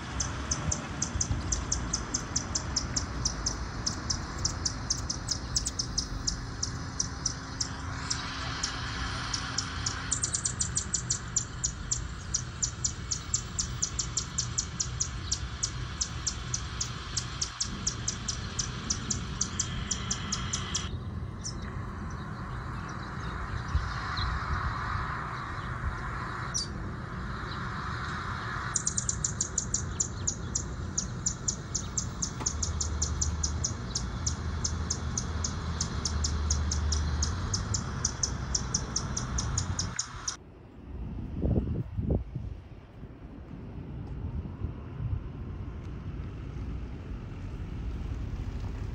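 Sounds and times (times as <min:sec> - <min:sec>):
bird chipping rapidly: 0:00.0 - 0:26.8, 0:27.4 - 0:40.4.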